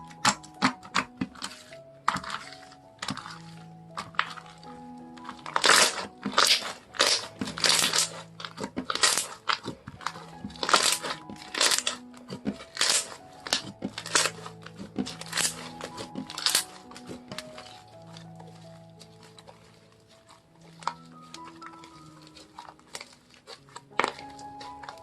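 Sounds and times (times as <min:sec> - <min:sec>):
slime squished by hand: 0:00.0 - 0:25.0
soft background music: 0:00.0 - 0:25.0.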